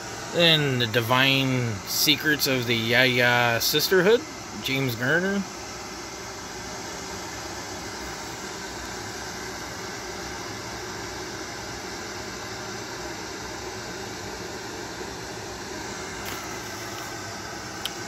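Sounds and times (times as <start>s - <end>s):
room noise hiss: 0.0s - 18.0s.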